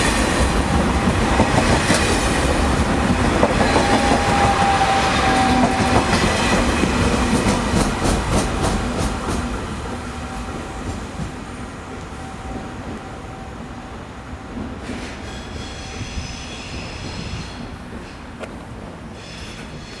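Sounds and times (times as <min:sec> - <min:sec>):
train rolling past: 0:00.0 - 0:20.0.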